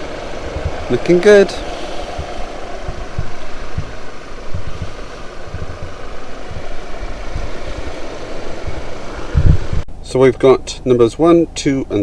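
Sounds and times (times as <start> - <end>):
truck engine idling: 0.0 - 9.8
low thumps: 0.0 - 9.9.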